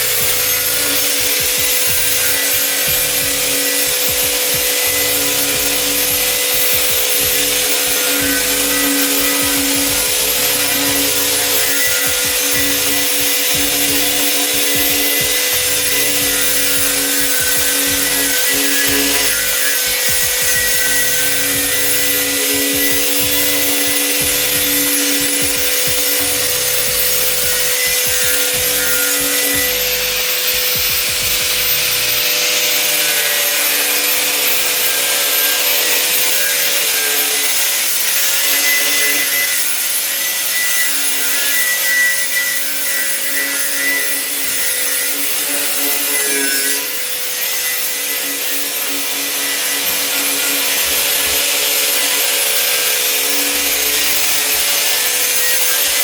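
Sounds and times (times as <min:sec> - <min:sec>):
power tool scouring metal: 0:00.0 - 0:56.0.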